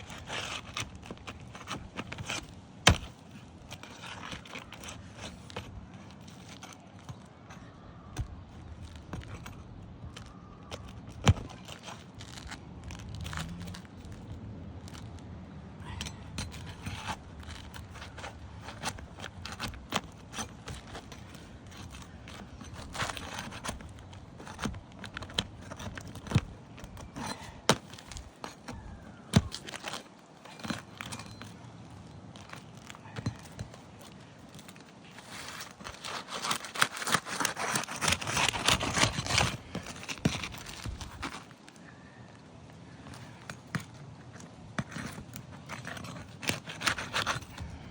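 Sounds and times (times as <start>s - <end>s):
roof shingles crackling: 0.0s - 15.5s, 16.3s - 47.9s.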